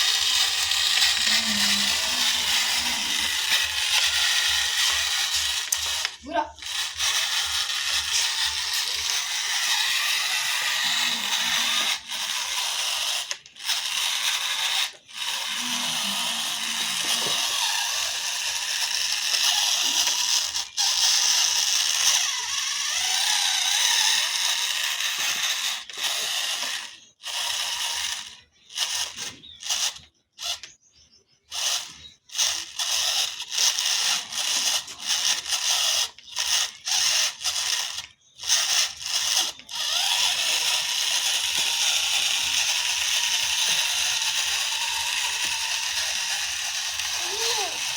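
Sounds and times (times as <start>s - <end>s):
toy tractor motor whirring: 0.0s - 47.9s.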